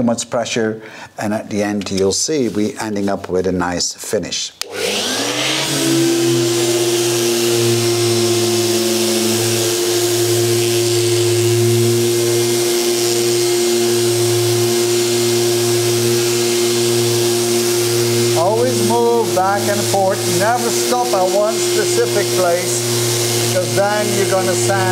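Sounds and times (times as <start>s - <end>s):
electric orbital sander: 4.6s - 24.9s.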